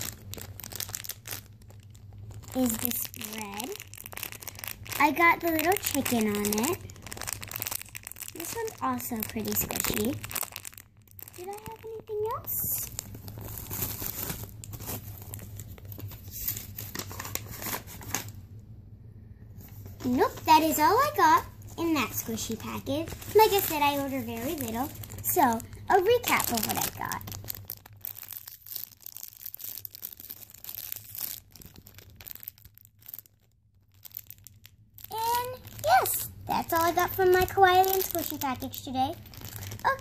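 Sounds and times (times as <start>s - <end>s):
package crinkling: 0.0s - 18.4s, 19.7s - 40.0s.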